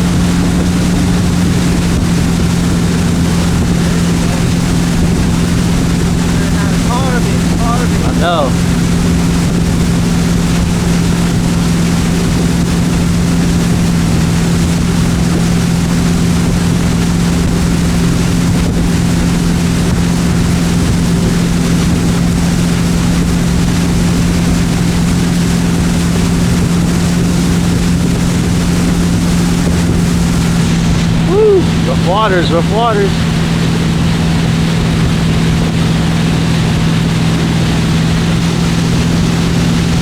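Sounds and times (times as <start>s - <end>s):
motorboat engine drone: 0.0s - 40.0s
water noise: 0.0s - 40.0s
wind: 0.0s - 40.0s.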